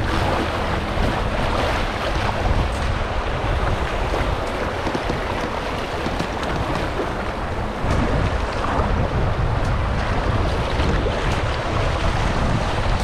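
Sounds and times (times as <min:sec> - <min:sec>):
river water rushing and splashing: 0:00.0 - 0:13.0
wind buffeting microphone: 0:00.0 - 0:13.0.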